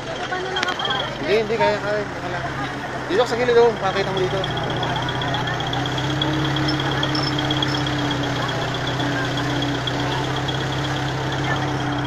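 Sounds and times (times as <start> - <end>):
vehicle engine running: 0.0 - 12.0
high pulsing whine: 0.6 - 12.0.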